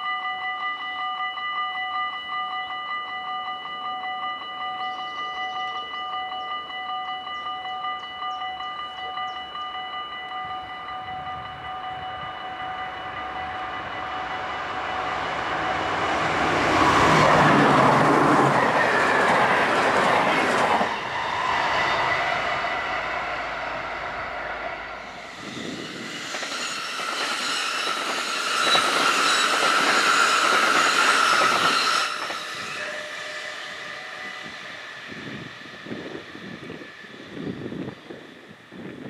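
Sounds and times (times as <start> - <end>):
level crossing warning bell: 0.0 - 35.6
electric train passing at speed: 0.0 - 39.0.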